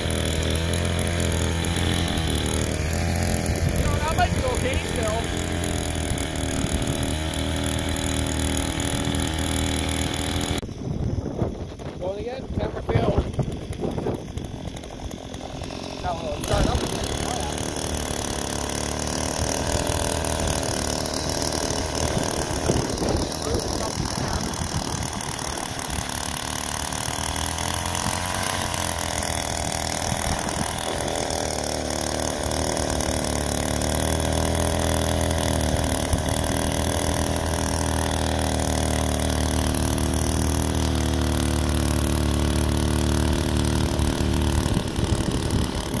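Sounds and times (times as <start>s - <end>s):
two-stroke engine running: 0.0s - 46.0s.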